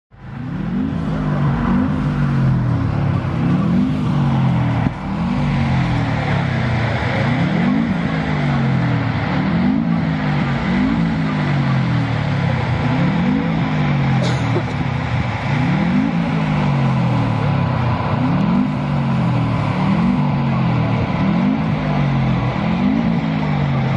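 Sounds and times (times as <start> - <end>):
car engine revving: 0.1 - 23.9.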